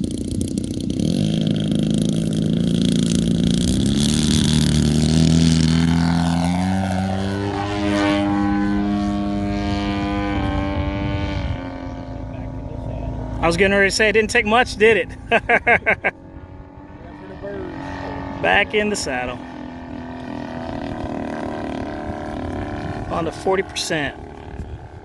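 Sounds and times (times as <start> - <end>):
model airplane engine and propeller: 0.0 - 25.0.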